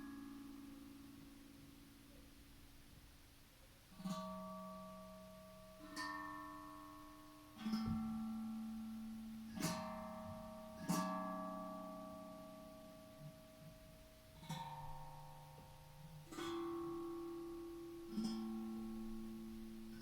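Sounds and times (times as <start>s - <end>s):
steel tongue drum notes ringing: 4.0s - 20.0s.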